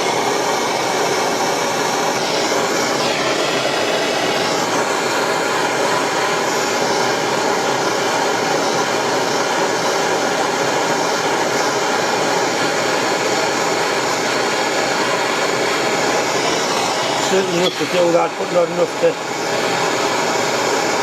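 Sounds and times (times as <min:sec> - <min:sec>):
torch flame hissing: 0:00.0 - 0:21.0.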